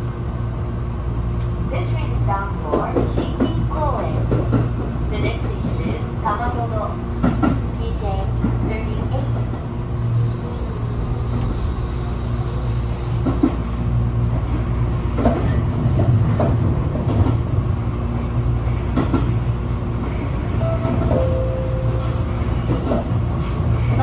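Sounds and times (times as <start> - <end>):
train wheels rumbling: 0.0 - 24.0
wheels clacking on rails: 1.9 - 12.5, 14.4 - 24.0.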